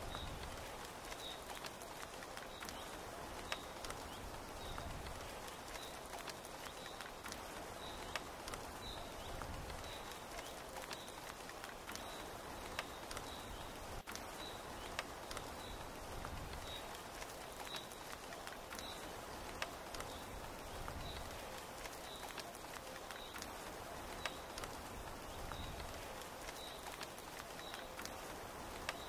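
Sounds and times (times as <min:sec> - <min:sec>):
rain on tent canvas and foliage: 0:00.0 - 0:29.0.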